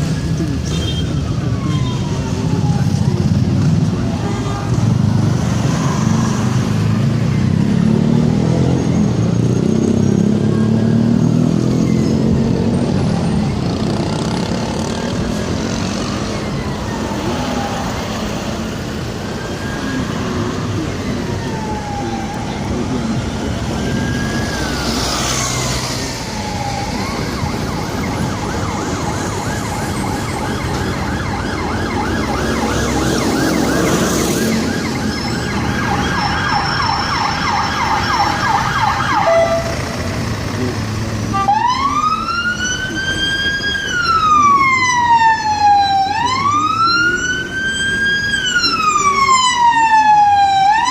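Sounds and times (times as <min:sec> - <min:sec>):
emergency siren wailing: 0:00.0 - 0:50.9
road traffic: 0:00.0 - 0:50.9.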